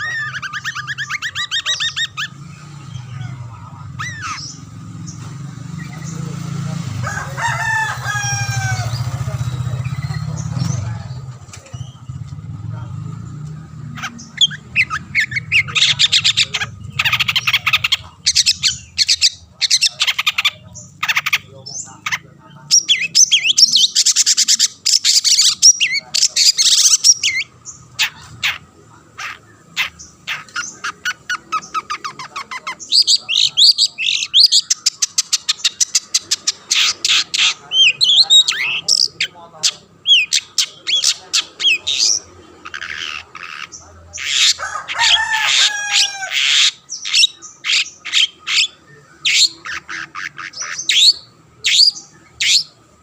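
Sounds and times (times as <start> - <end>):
shrike chattering song: 0.0 - 53.0.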